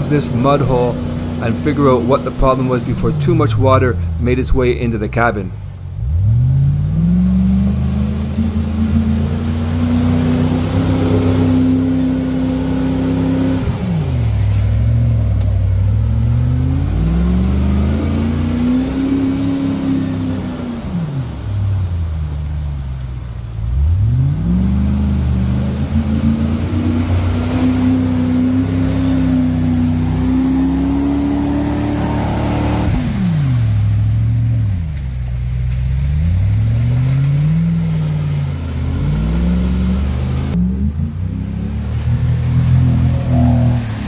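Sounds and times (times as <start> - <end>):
engine revving under load: 0.0 - 44.0.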